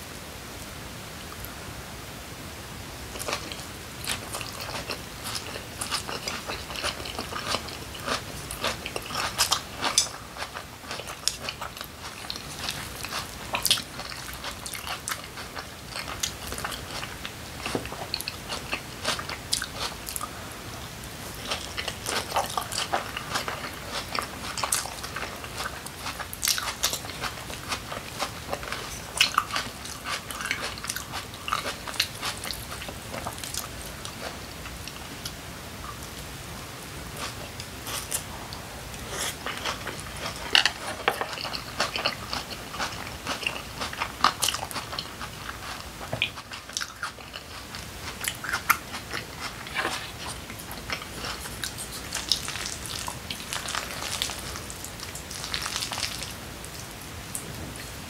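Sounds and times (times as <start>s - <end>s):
person chewing crunchy food: 3.1s - 36.2s, 37.0s - 56.4s.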